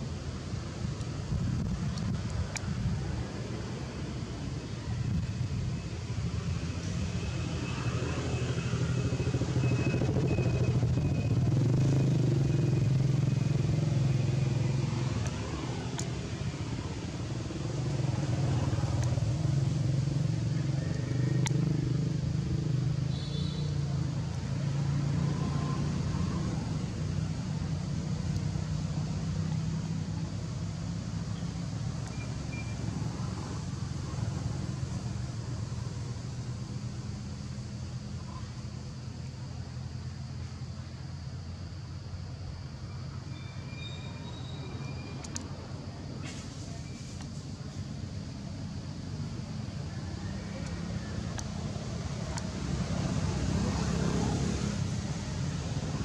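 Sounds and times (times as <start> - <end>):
engine droning: 5.5 - 40.8, 44.3 - 56.0.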